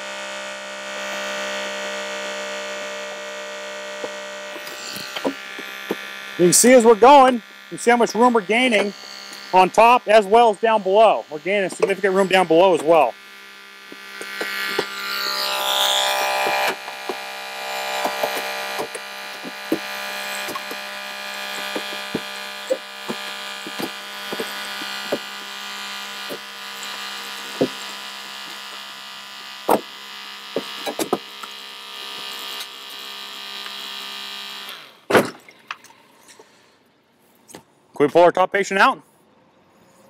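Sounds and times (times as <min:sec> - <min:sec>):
hydraulic spreader humming: 0:00.0 - 0:35.4.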